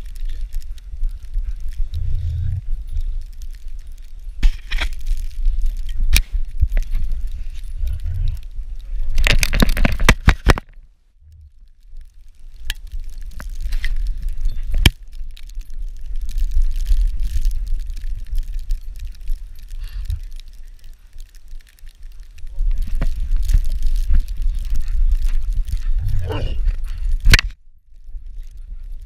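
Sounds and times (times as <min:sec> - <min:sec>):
scrapes and clicks: 0:00.0 - 0:29.0
wind rumble: 0:00.0 - 0:29.0.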